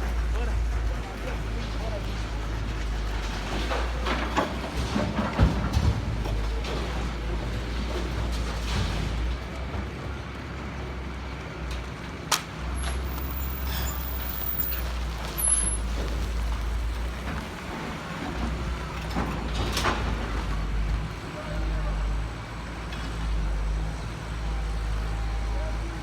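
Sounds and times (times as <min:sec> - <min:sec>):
diesel machinery rumbling: 0:00.0 - 0:26.0.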